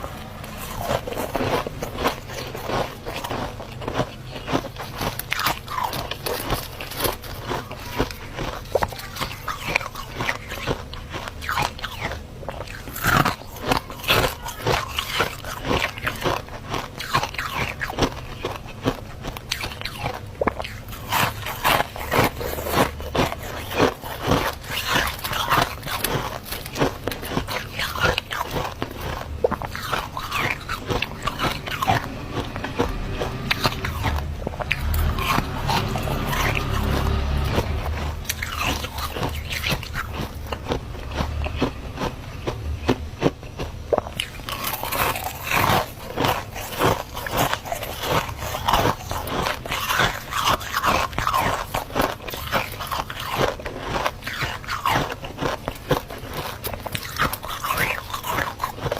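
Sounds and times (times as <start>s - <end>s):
chewing crisp frost: 0.0s - 58.9s.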